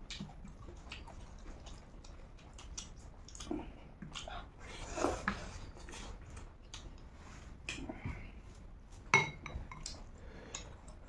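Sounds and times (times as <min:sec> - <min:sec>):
people chewing and smacking: 0:00.0 - 0:11.0.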